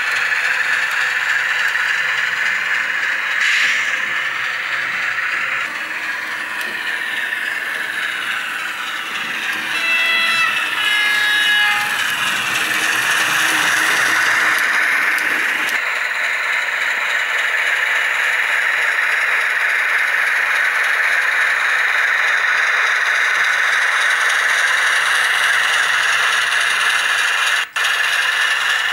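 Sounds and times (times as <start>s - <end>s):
model locomotive sound hiss: 0.0s - 16.5s, 17.5s - 28.9s
wheel and track noise: 0.0s - 28.9s.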